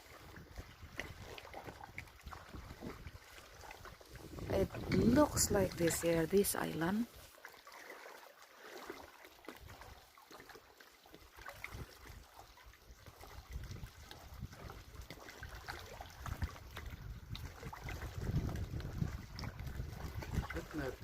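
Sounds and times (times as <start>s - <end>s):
small water splashes: 0.0s - 21.0s
water lapping around kayak: 0.0s - 21.0s.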